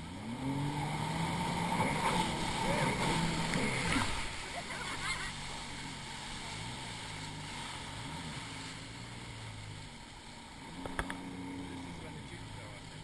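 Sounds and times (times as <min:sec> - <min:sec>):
jet ski engine running: 0:00.0 - 0:13.0
wind and water spray rushing: 0:00.2 - 0:11.9.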